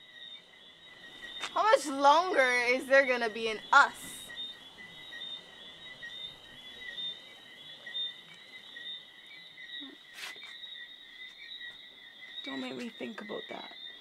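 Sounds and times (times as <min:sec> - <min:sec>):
crickets and insects chirping: 0:00.0 - 0:14.0.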